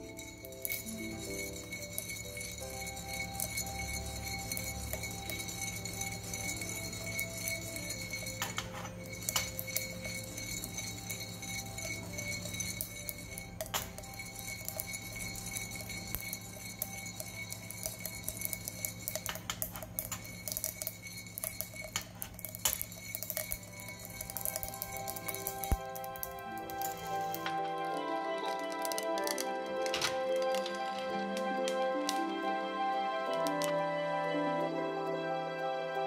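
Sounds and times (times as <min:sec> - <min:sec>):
coffee beans rattling in roaster: 0:00.0 - 0:32.2, 0:33.2 - 0:33.8
sharp clicks of roasting beans: 0:00.0 - 0:32.3, 0:33.2 - 0:33.9.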